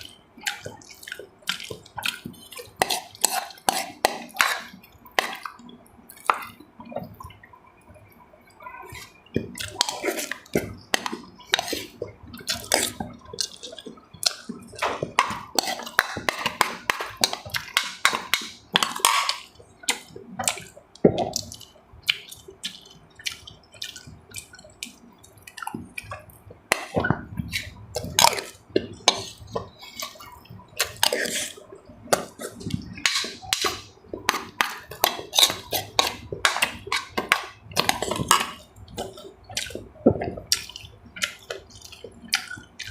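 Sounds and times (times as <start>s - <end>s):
wet chewing and slurping: 0.0s - 7.4s, 8.7s - 42.9s.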